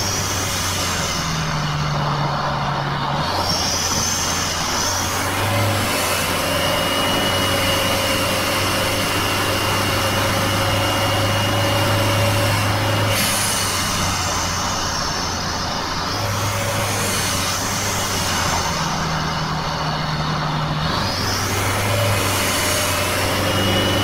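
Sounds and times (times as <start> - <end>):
car engine hum: 0.0 - 24.0
road noise: 0.0 - 24.0.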